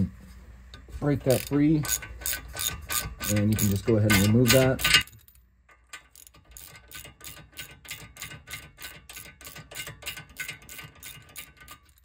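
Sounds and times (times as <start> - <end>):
ratchet wrench clicking: 1.2 - 12.0.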